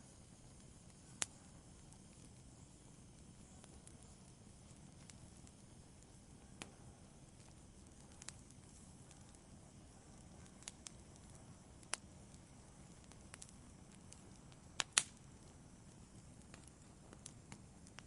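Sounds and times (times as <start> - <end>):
fire low rumble: 0.0 - 18.0
sharp pops from fire: 0.0 - 18.0
wood fire crackling: 0.0 - 18.0.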